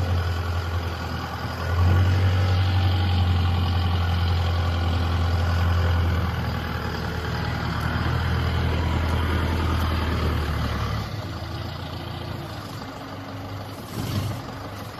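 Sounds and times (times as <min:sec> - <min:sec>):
forklift diesel engine running: 0:00.0 - 0:14.9.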